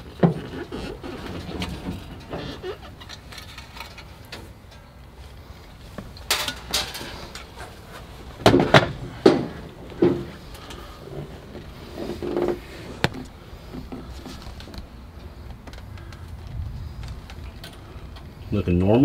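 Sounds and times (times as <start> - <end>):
engine parts clattering and knocking: 0.0 - 18.9.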